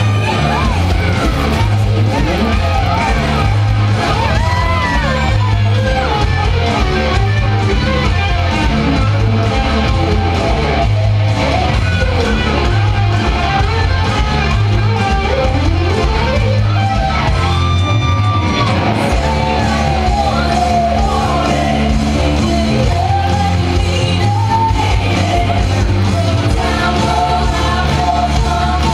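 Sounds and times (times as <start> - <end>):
electric guitar lead: 0.0 - 28.9
pulsing bass line: 0.0 - 28.9
shouted vocals: 0.0 - 28.9.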